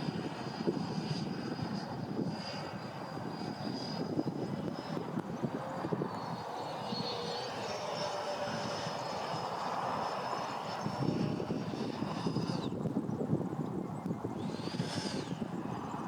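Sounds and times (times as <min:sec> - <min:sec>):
model jet ducted fans whining: 0:00.0 - 0:16.0
wind rumble on microphone: 0:00.0 - 0:16.0.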